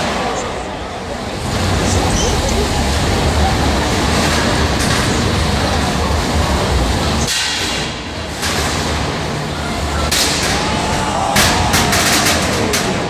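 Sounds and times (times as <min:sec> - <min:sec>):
robot machinery rumble: 0:00.0 - 0:13.0
robots crashing: 0:01.5 - 0:13.0.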